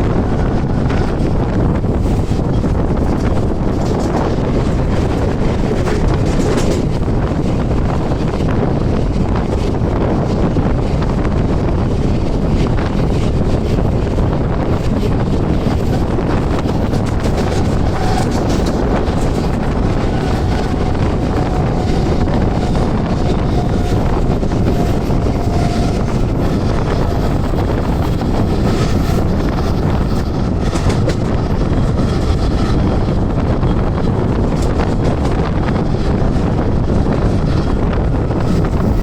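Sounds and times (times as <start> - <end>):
train wheels rumbling: 0.0 - 39.0
wind buffeting microphone: 0.0 - 39.0.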